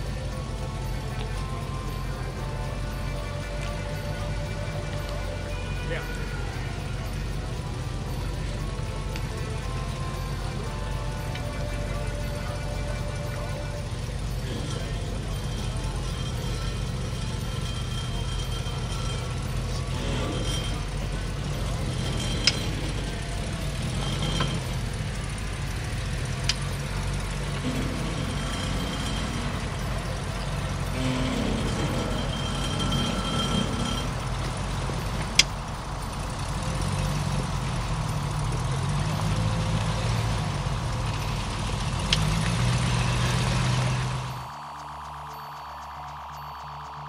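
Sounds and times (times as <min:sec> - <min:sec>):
vehicle engine at low revs: 0:00.0 - 0:47.0.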